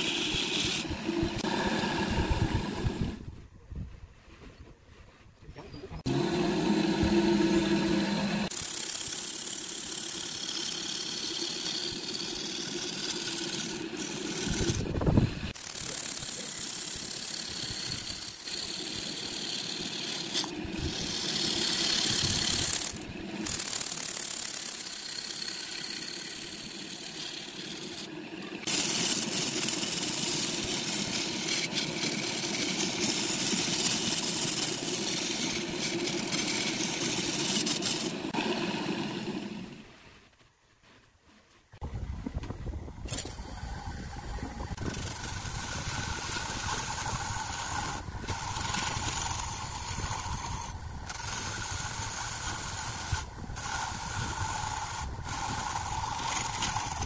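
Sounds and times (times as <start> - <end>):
wood lathe motor hum: 0.0 - 3.2, 6.0 - 39.9, 43.1 - 57.0
turning tool scraping wood: 0.0 - 3.4, 6.0 - 39.9, 44.4 - 57.0.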